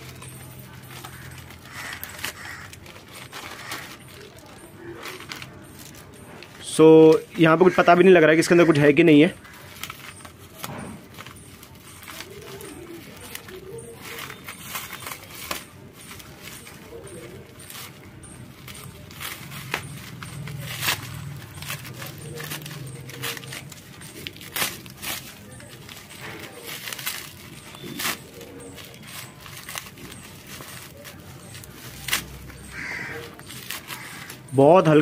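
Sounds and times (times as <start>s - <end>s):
plastic packaging rustling and crackling: 0.0s - 35.0s.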